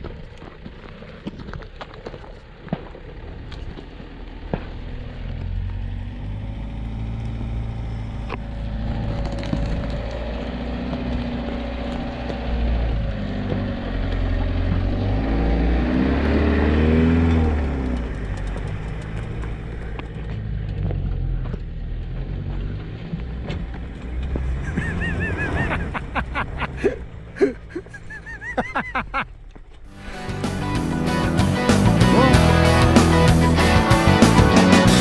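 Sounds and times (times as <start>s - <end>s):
vehicle engine accelerating: 0.0s - 35.0s.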